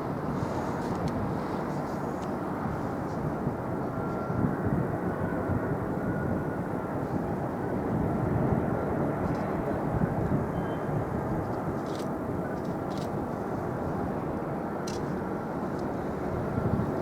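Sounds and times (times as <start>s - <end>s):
jet airliner engines: 0.0s - 17.0s.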